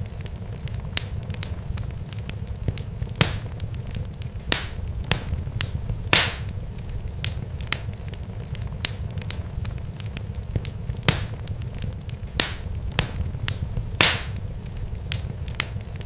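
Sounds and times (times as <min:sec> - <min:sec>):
fire crackling and popping: 0:00.0 - 0:16.0
low rumble: 0:02.6 - 0:16.0.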